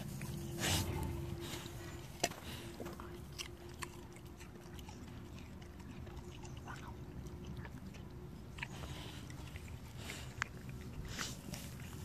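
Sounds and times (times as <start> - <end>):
dog chewing fruit: 0.0 - 12.0.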